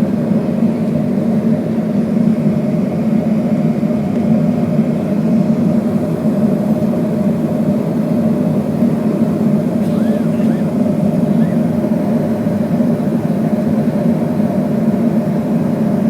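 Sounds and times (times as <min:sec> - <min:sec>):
jet engines humming in cabin: 0:00.0 - 0:16.0.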